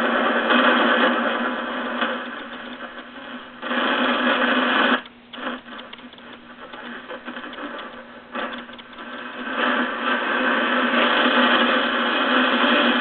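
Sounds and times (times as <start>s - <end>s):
shortwave radio static hiss: 0.0s - 13.0s.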